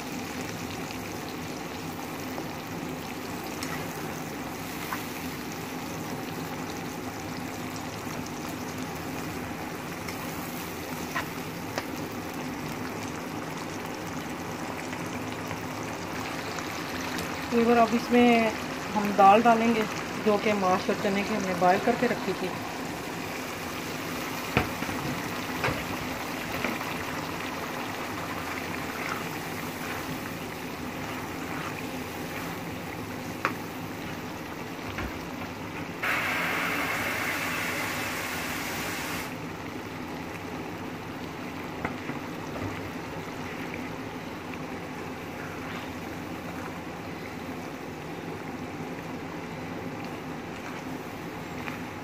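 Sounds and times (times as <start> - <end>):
food bubbling in a pan: 0.0 - 52.0.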